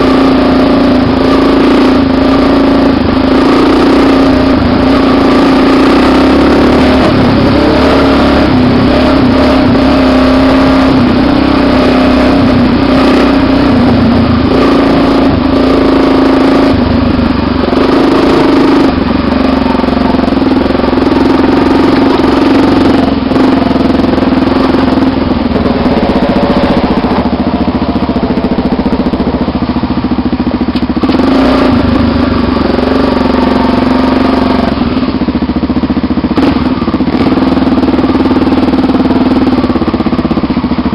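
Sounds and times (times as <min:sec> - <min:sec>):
motorcycle engines running: 0:00.0 - 0:40.9.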